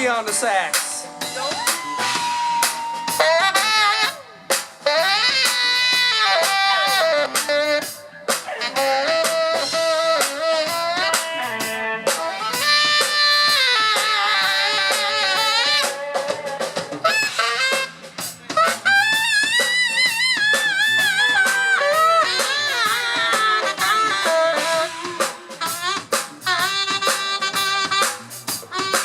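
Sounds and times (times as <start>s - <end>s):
rock band playing: 0.0s - 29.0s
saxophone solo: 1.2s - 29.0s.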